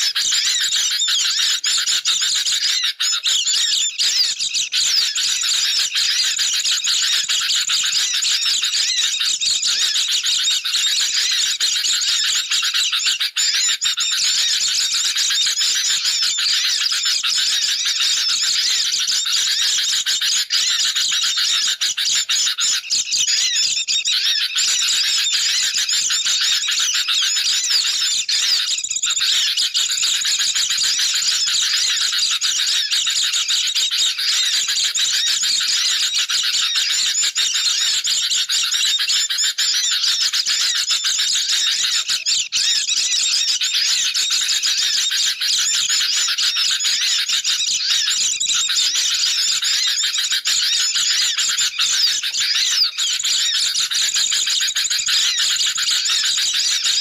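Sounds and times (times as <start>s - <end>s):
small birds chattering: 0.0s - 56.9s.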